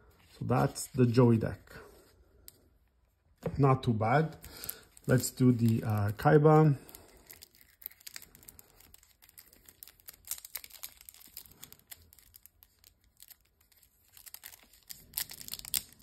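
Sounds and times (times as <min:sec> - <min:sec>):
crinkling of cards and plastic wrapping: 0:00.0 - 0:02.8, 0:03.4 - 0:16.0.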